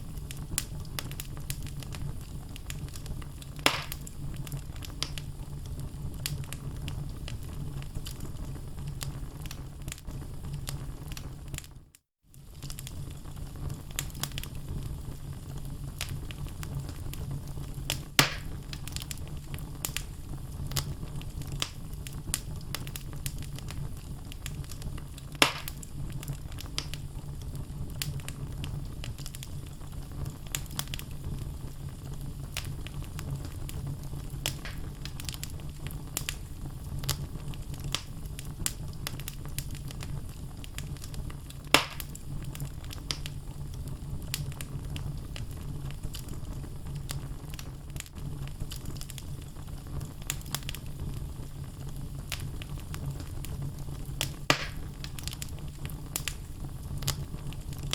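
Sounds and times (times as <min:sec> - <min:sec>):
loud fire pops: 0:00.0 - 0:11.8, 0:12.4 - 0:57.9
logs crackling in fireplace: 0:00.0 - 0:57.9
low rumble of fire: 0:00.0 - 0:57.9.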